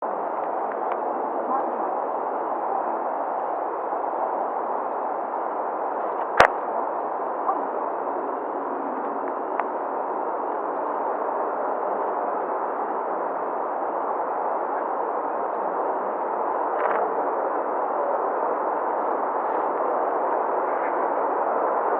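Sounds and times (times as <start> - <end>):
radio hiss: 0.0 - 21.9.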